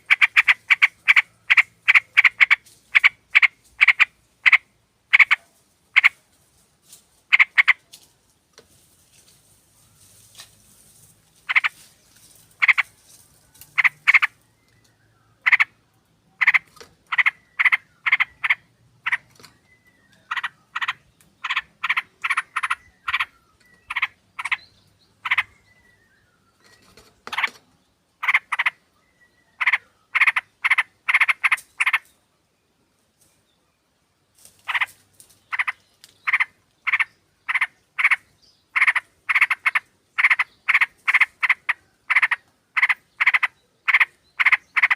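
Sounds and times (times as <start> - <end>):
birds chattering: 0.0 - 6.2, 7.3 - 7.9, 11.4 - 32.2, 34.4 - 44.9.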